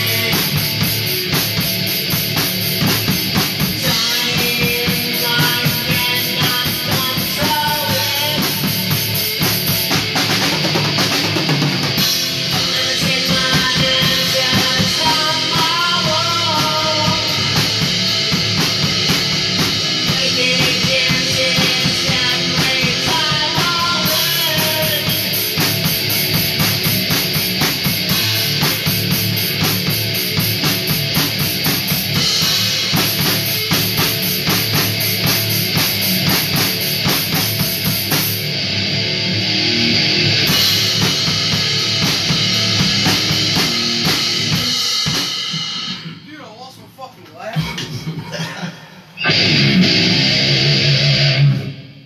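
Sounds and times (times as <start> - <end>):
rock drum kit beat: 0.0 - 52.0.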